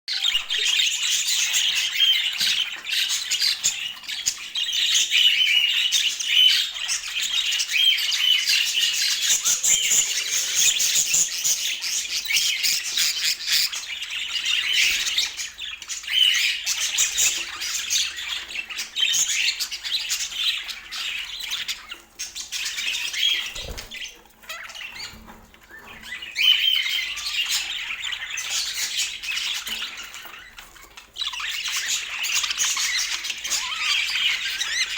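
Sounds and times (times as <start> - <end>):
budgerigar chirping and squawking: 0.1 - 34.9.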